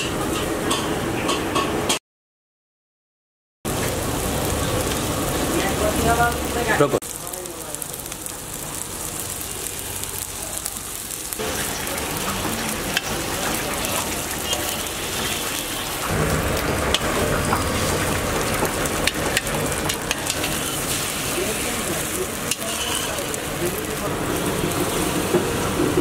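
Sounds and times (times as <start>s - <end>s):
egg sizzling in a wok: 3.7s - 26.0s.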